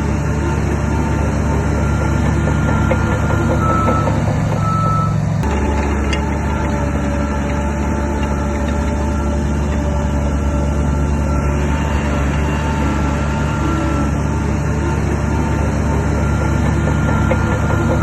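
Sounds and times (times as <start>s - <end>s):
bulldozer diesel engine drone: 0.0s - 18.0s
machine whining tones: 1.7s - 18.0s.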